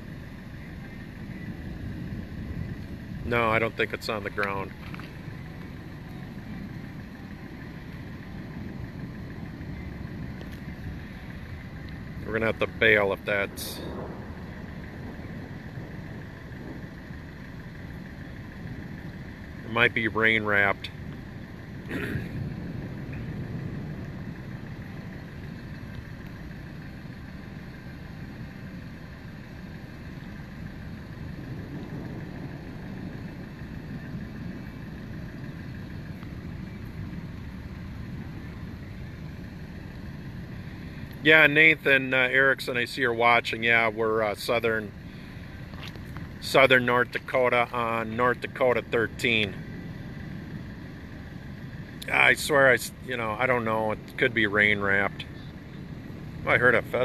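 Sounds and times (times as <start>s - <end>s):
low roadside rumble: 0.0s - 57.0s
wind buffeting microphone: 0.0s - 57.0s.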